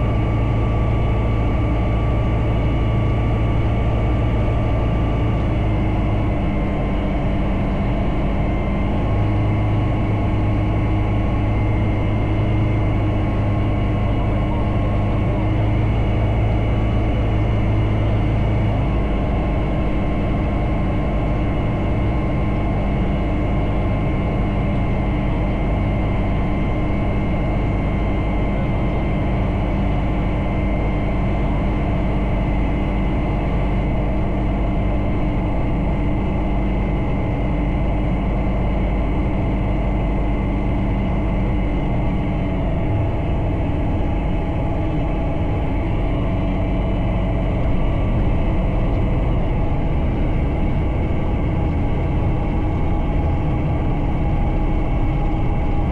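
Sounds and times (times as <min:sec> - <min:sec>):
light aircraft engine running: 0:00.0 - 0:55.9
propeller and airframe noise: 0:00.0 - 0:55.9.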